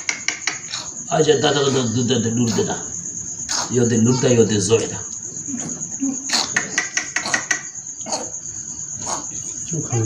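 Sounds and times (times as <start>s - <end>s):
high-pitched insect chirring: 0.0s - 10.0s.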